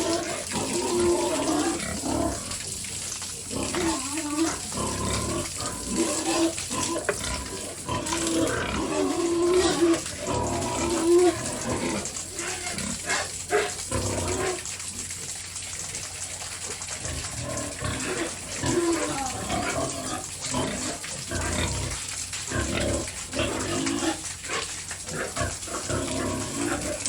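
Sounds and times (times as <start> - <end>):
pigs grunting: 0.0 - 27.0
running water hiss: 0.0 - 27.0.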